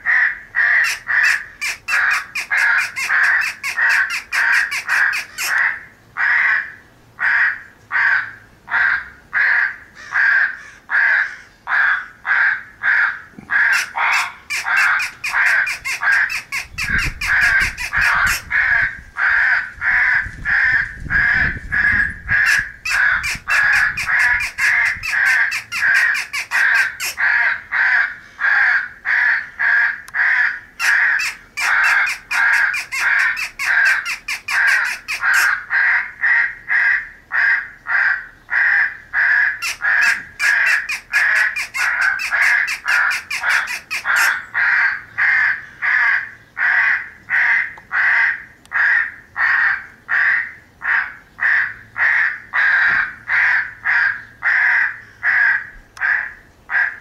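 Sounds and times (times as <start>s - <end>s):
crows cawing: 0.0s - 57.0s.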